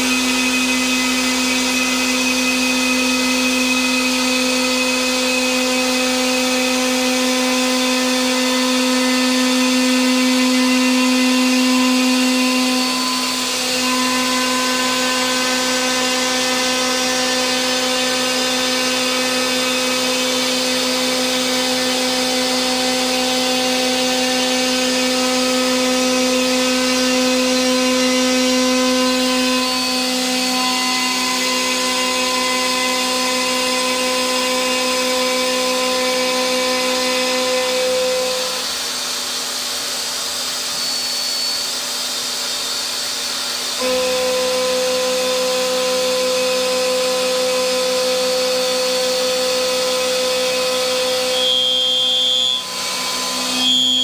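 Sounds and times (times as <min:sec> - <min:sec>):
spindle whine: 0:00.0 - 0:39.4, 0:40.4 - 0:54.0
milling cutter cutting metal: 0:00.0 - 0:54.0.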